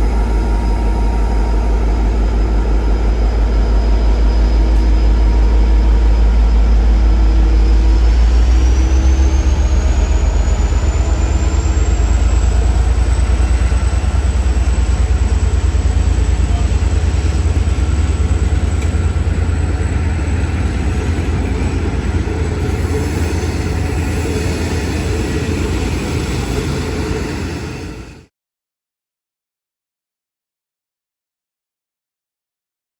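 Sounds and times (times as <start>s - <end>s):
high train whine: 0.0s - 28.3s
train rumbling: 0.0s - 28.3s.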